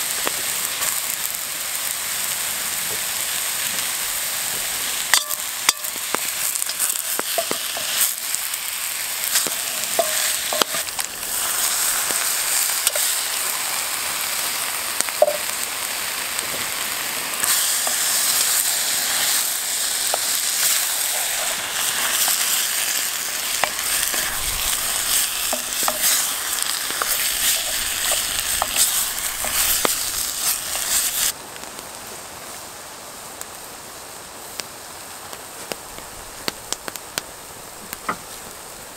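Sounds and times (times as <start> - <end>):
food sizzling in a pot: 0.0 - 31.7.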